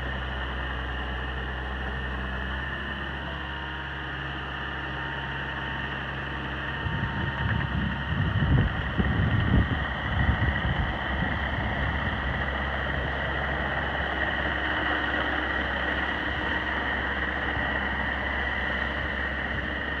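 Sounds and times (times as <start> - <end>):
excavator engine idling: 0.0 - 20.0.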